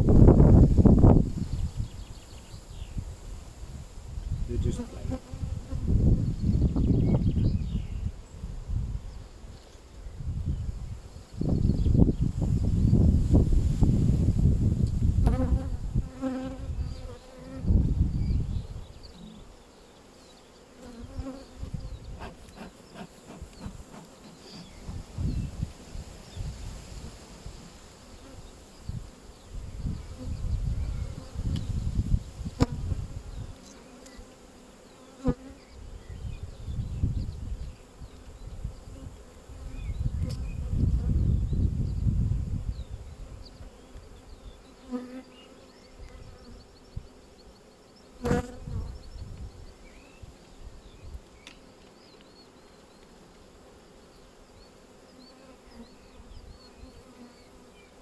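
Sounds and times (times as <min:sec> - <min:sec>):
honeybees buzzing: 0:03.6 - 0:08.1, 0:10.6 - 0:58.0.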